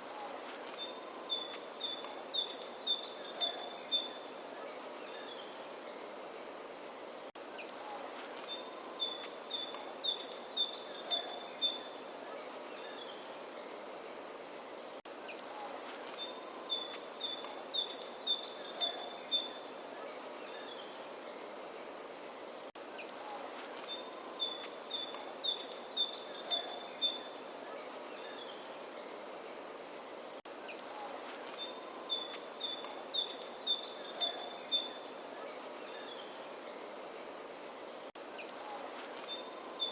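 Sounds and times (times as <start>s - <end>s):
outdoor background noise: 0.0s - 39.9s
songbird singing: 0.0s - 39.9s.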